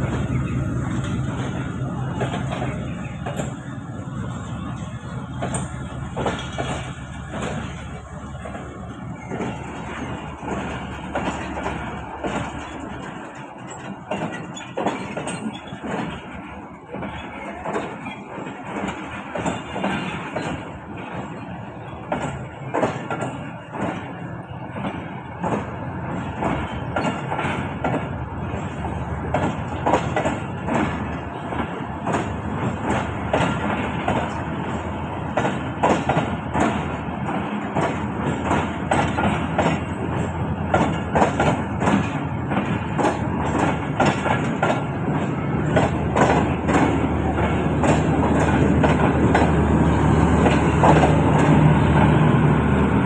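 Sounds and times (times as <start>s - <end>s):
clicks and knocks of train: 0.0s - 53.0s
train wheels rumbling on rail: 0.0s - 53.0s.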